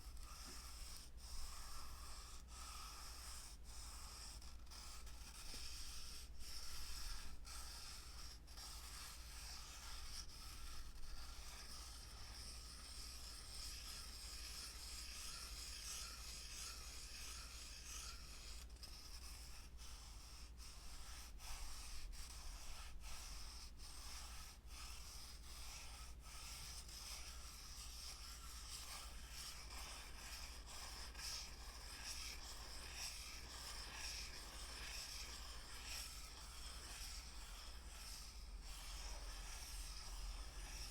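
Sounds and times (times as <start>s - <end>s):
close-up rubbing: 0.0s - 40.9s.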